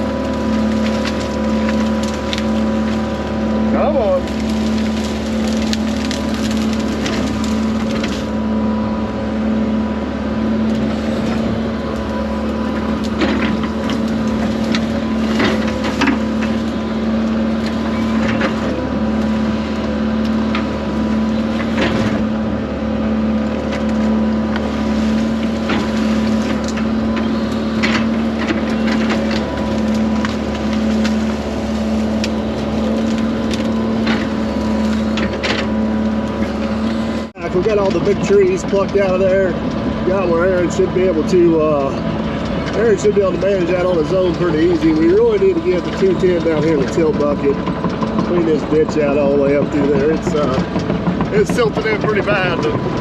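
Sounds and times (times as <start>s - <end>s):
wood cracking and knocking: 0.0s - 8.4s, 10.6s - 22.4s, 23.4s - 53.0s
excavator diesel engine running: 0.0s - 53.0s.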